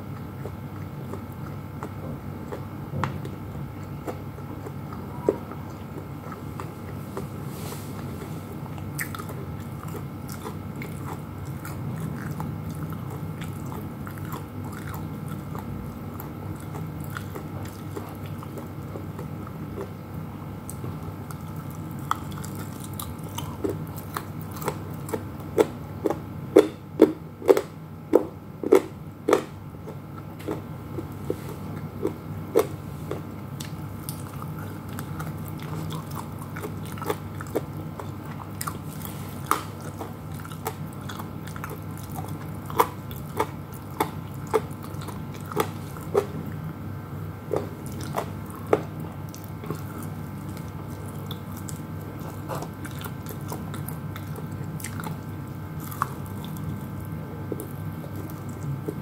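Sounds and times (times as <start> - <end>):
biting and chewing crispy food: 0.0 - 59.0
low room hum: 0.0 - 59.0.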